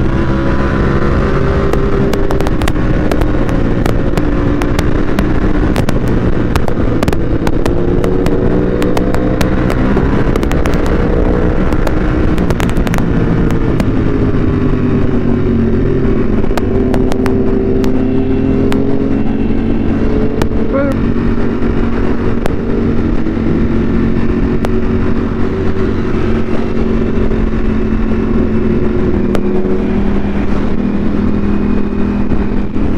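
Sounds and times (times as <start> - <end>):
exhaust pops and crackles: 0.0 - 32.9
motorcycle engine cruising: 0.0 - 32.9
wind on microphone: 0.0 - 32.9.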